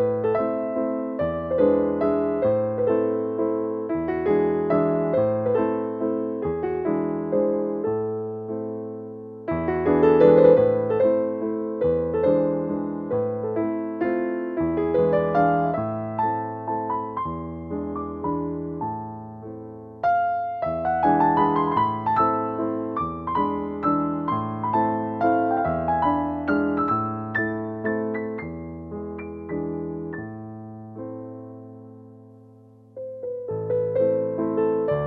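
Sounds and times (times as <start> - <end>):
solo piano chords: 0.0 - 35.0.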